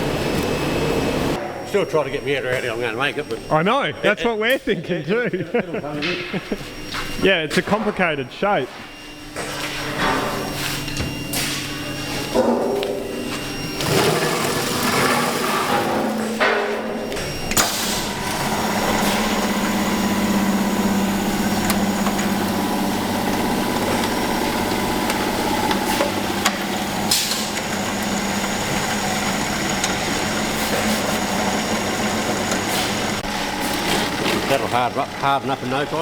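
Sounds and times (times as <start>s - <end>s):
machine humming: 0.0s - 36.0s.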